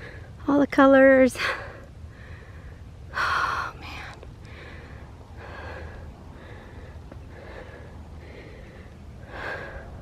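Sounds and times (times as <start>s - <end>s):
low steady rumble: 0.0s - 10.0s
person breathing hard: 1.4s - 10.0s.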